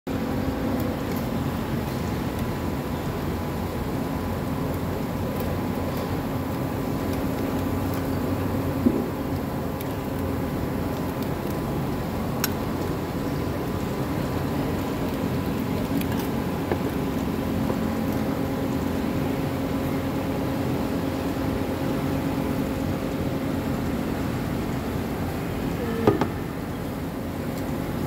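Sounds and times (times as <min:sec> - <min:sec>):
mechanical hum: 0:00.1 - 0:28.0.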